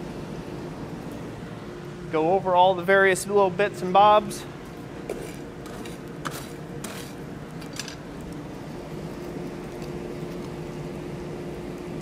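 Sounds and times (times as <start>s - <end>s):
forge humming: 0.0s - 12.0s.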